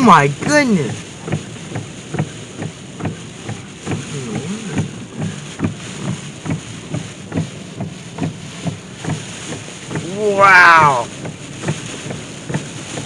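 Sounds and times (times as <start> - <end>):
heavy rain and wind on car: 0.0 - 13.0
windshield wipers thumping: 0.0 - 13.0.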